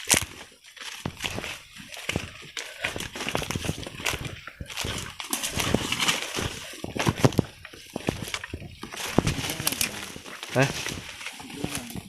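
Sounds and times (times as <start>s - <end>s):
footsteps through forest undergrowth: 0.0s - 12.0s.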